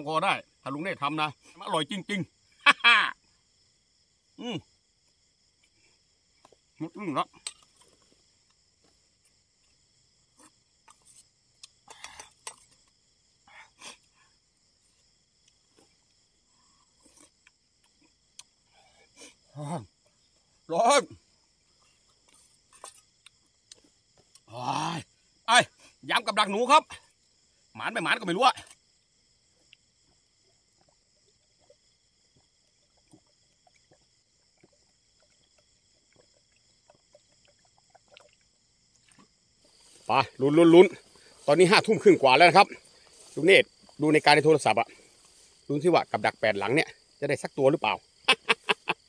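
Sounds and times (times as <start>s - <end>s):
crickets and insects chorus: 0.0s - 49.0s.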